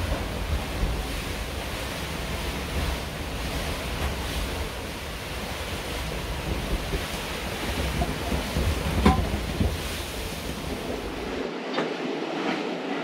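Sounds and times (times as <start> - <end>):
wind and rough seas rushing: 0.0 - 13.0
wind rumble on microphone: 0.0 - 13.0.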